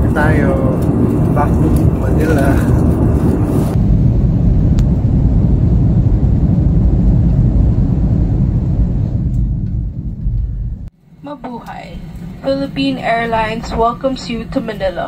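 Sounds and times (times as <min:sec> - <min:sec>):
airliner cabin rumble on landing: 0:00.0 - 0:15.0.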